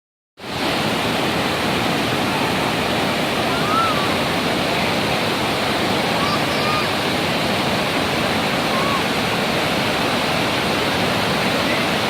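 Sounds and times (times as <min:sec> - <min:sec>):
waterfall roaring: 0:00.4 - 0:12.0.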